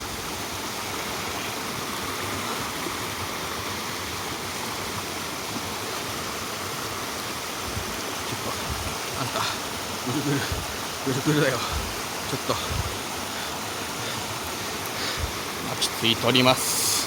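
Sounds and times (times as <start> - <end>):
stream flowing water: 0.0 - 17.0.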